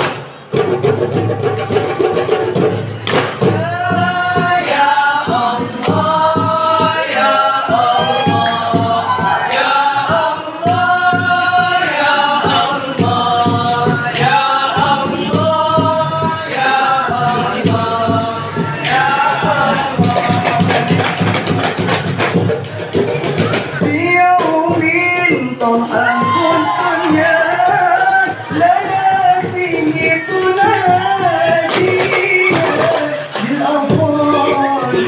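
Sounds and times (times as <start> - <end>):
boys singing together: 3.2 - 35.0.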